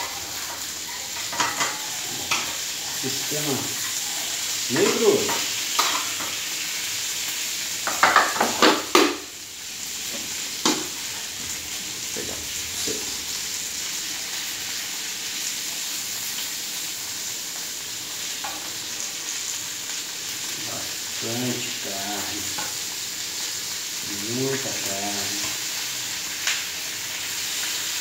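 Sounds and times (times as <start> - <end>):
meat sizzling in grill pan: 0.0 - 28.0.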